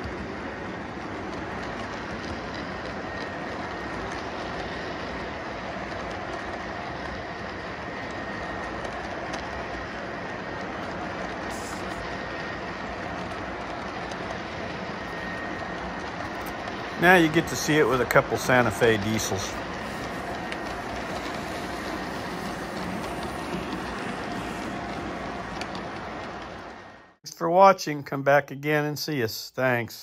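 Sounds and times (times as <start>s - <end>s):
model train wheels rumbling: 0.0s - 27.1s.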